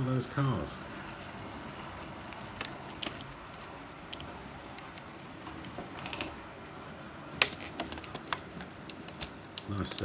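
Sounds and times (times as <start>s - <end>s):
room hiss: 0.0s - 10.0s.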